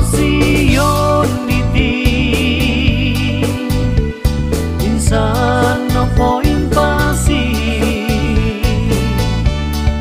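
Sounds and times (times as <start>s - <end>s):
christian song with beat and bass: 0.0s - 10.0s.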